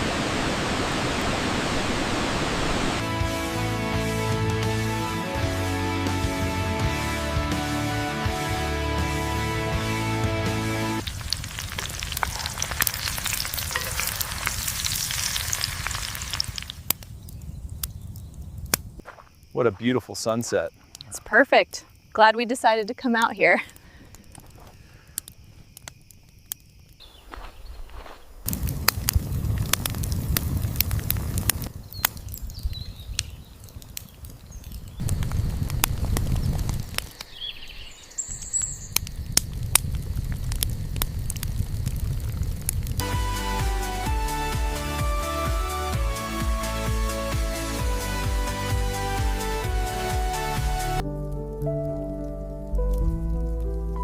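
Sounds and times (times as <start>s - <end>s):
campfire crackling and popping: 9.7s - 54.0s.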